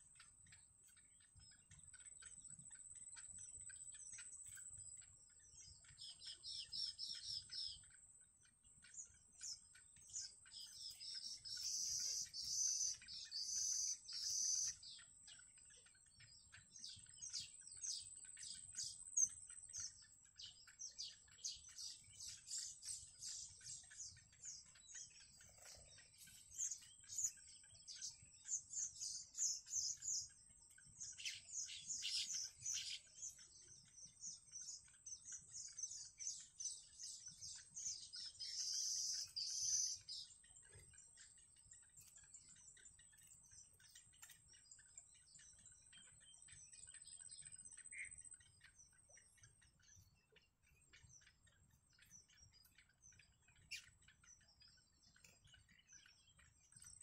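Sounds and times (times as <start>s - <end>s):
bird chicks peeping: 0.0s - 57.0s
faint steady high tone: 0.0s - 57.0s.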